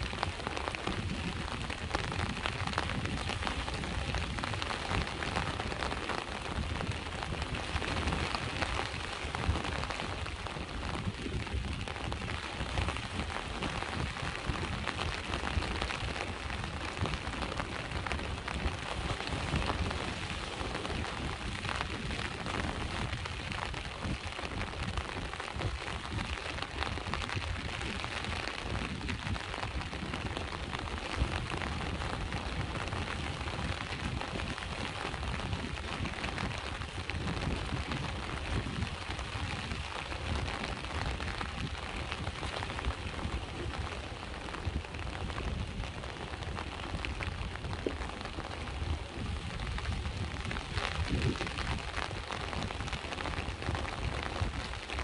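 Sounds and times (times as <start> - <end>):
rain drops ticking on a surface: 0.0 - 55.0.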